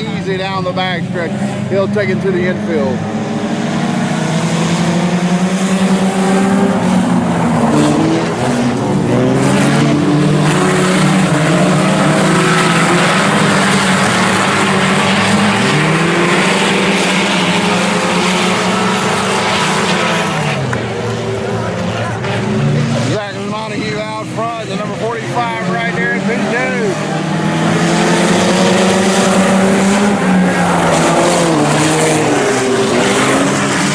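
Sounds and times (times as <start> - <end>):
race car engines revving: 0.0 - 33.9.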